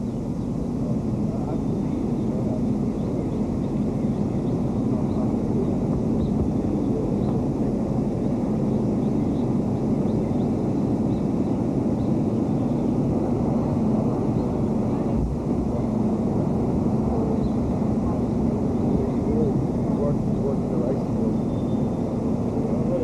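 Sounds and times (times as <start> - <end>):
faint hum: 0.0 - 23.0
low outdoor rumble: 0.0 - 23.0.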